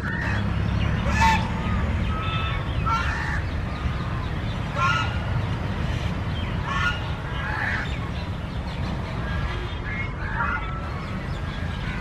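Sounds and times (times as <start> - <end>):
geese honking: 0.0 - 8.0, 9.1 - 12.0.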